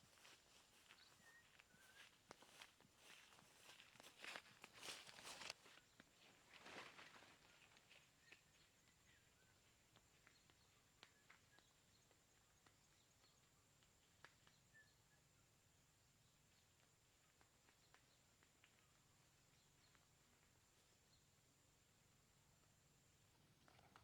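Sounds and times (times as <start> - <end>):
faint ticks and rustles: 0.0 - 24.0.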